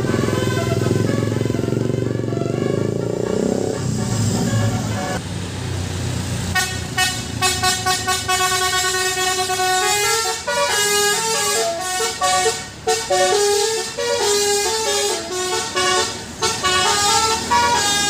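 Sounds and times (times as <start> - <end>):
multi-trumpet bus horn tune: 0.0 - 5.2, 6.5 - 18.0
bus engine running: 0.0 - 18.0.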